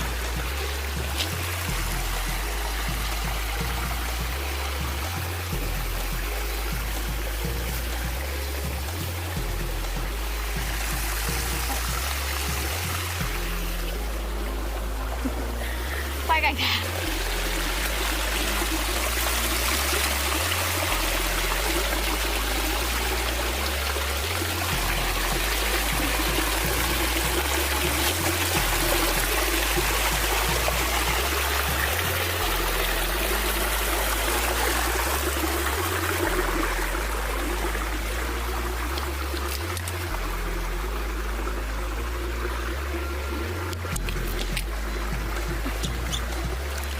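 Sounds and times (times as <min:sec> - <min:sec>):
deep bass line music: 0:00.0 - 0:46.9
running water trickling: 0:00.0 - 0:46.9.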